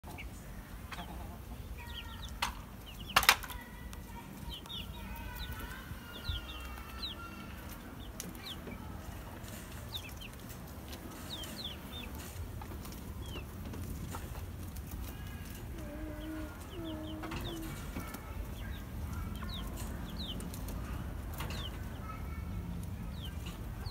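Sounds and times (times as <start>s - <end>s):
hens clucking: 0.0s - 22.1s.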